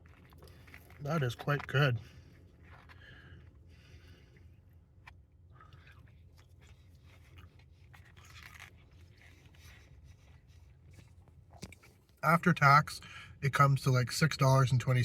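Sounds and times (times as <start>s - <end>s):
chewing food: 0.0s - 12.2s.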